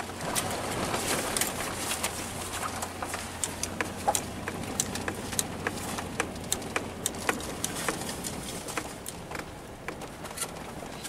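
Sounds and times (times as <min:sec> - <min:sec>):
gravel clicks and ticks: 0:00.0 - 0:11.0
road noise rumble: 0:00.0 - 0:11.0.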